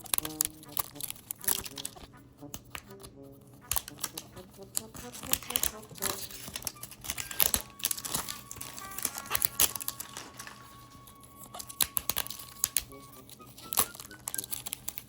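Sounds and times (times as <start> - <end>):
packaging crinkling and tearing: 0.0 - 2.1, 3.6 - 15.0.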